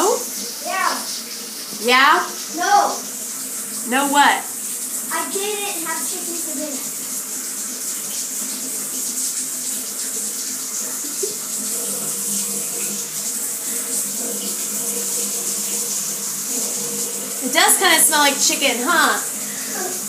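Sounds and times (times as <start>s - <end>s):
shower water spraying: 0.0s - 20.0s.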